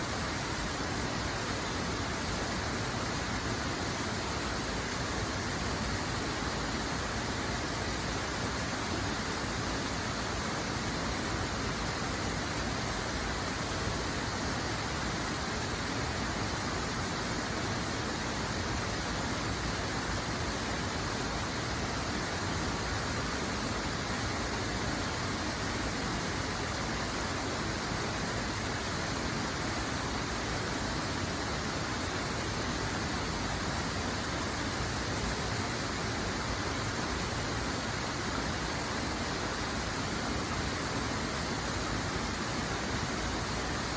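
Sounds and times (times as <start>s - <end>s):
rushing water: 0.0s - 43.9s.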